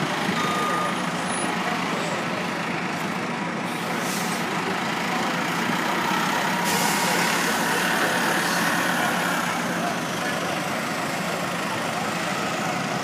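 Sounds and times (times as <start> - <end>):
bus engine running with faint whine: 0.0 - 13.0.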